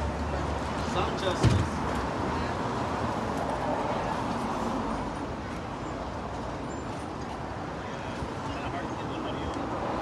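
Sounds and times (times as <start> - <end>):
street traffic noise: 0.0 - 10.0.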